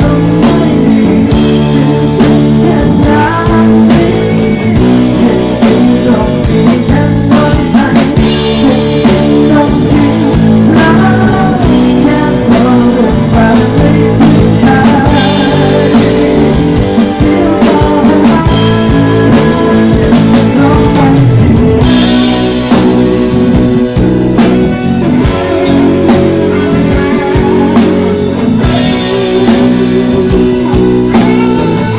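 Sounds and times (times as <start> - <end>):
guitar: 0.0 - 31.9
live rock band playing: 0.0 - 31.9
steady drum beat: 0.0 - 31.9.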